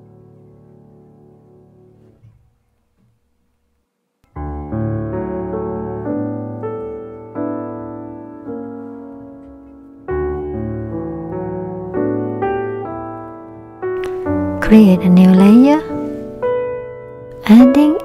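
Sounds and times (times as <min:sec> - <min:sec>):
piano music: 0:00.0 - 0:02.3, 0:04.3 - 0:18.0.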